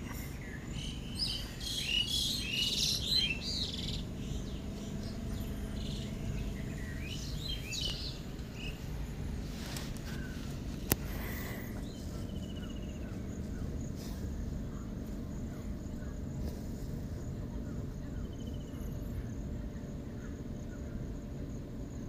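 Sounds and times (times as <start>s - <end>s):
car cabin road and engine rumble: 0.0s - 22.0s
faint chirping trills: 0.0s - 22.0s.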